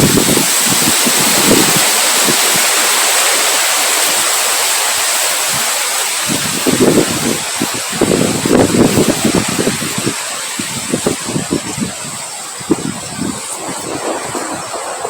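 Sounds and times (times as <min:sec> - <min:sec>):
wind gusts buffeting microphone: 0:00.0 - 0:15.0
wind hissing: 0:00.0 - 0:15.0.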